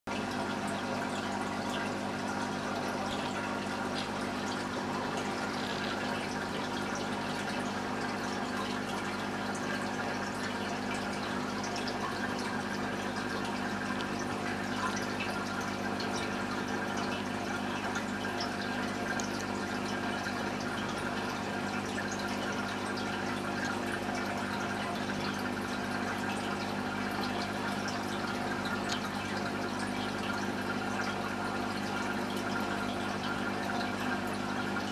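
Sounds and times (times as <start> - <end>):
aquarium pump humming: 0.1 - 34.9
water trickling: 0.1 - 34.9.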